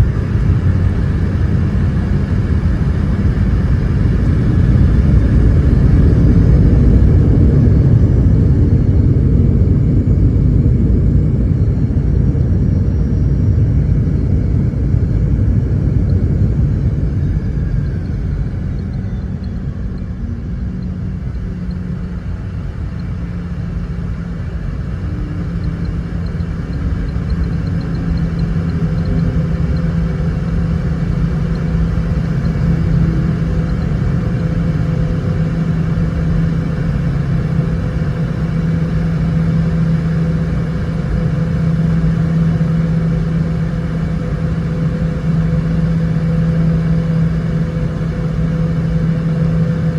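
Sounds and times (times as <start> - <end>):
cabin hum with low tone: 0.0 - 49.9
jet cabin rumble: 0.0 - 49.9.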